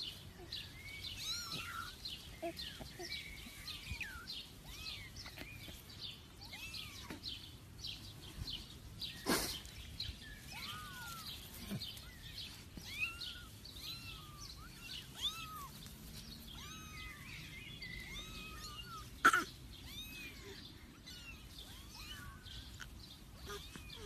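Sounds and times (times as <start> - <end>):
kittens mewing: 0.0 - 7.5, 10.4 - 24.0.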